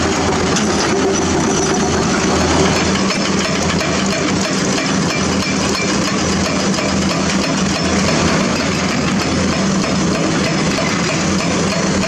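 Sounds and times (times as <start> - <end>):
excavator diesel engines running: 0.0 - 12.0.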